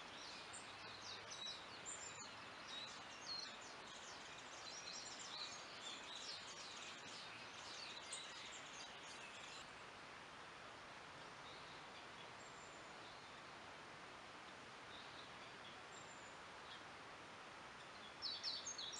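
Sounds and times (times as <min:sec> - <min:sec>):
small birds chirping: 0:00.0 - 0:09.9, 0:11.1 - 0:13.7, 0:14.4 - 0:17.0, 0:17.6 - 0:18.9
steady hiss: 0:00.0 - 0:18.9.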